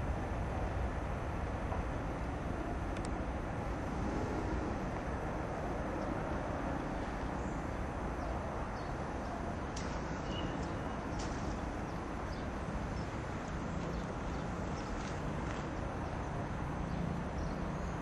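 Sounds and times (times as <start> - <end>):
jet engines at takeoff power: 0.0 - 18.0.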